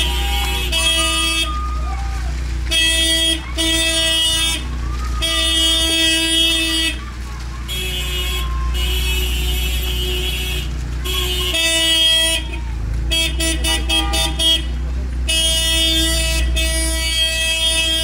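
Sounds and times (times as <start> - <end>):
car horns honking: 0.0 - 18.0.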